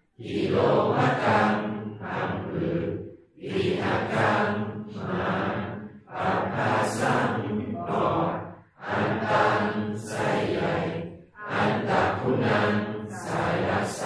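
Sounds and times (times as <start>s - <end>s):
group chanting in unison: 0.0s - 14.0s.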